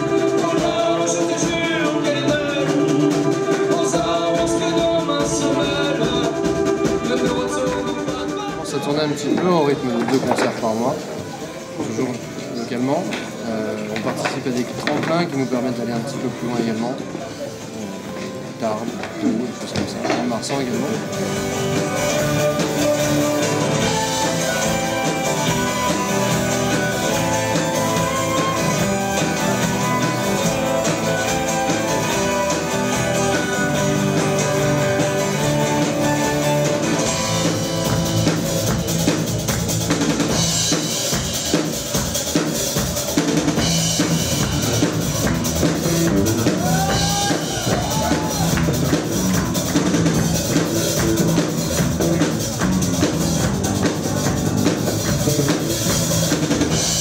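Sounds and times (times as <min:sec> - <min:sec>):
bass guitar: 0:00.0 - 0:15.7, 0:19.9 - 0:57.0
acoustic and electric guitars: 0:00.0 - 0:57.0
drum kit: 0:00.0 - 0:57.0.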